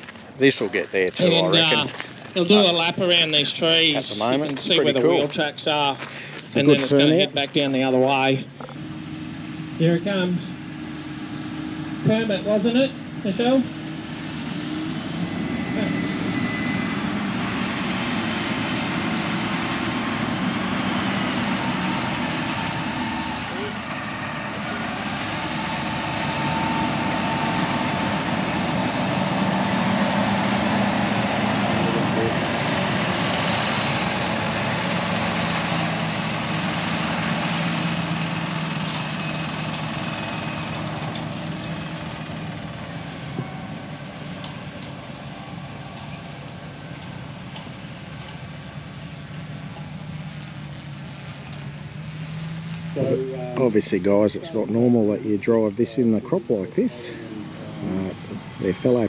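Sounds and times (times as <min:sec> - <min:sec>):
tractor diesel engine passing: 0:00.0 - 0:59.0.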